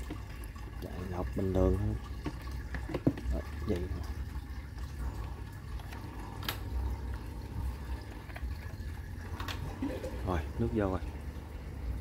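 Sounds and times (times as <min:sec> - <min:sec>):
low steady pump rumble: 0:00.0 - 0:12.0
water trickling in filter: 0:00.0 - 0:12.0.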